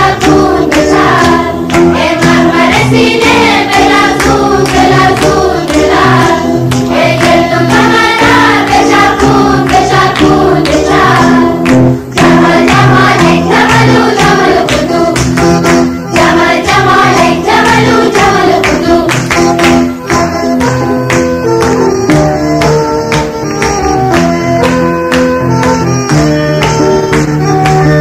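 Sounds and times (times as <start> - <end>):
held instrumental notes: 0.0 - 28.0.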